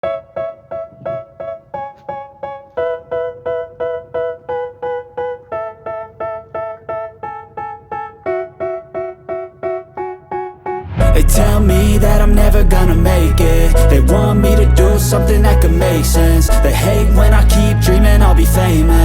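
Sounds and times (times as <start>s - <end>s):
electric piano chords: 0.0s - 19.0s.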